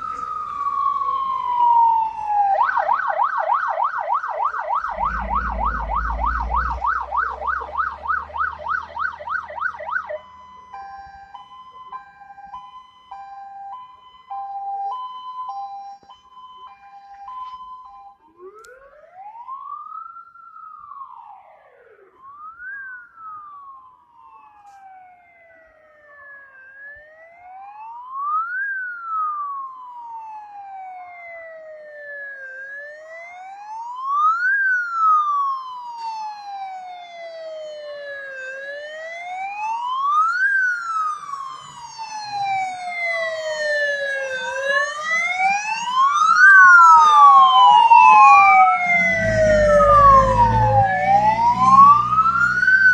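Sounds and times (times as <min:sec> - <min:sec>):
fire engine sirens wailing: 0:00.0 - 0:52.9.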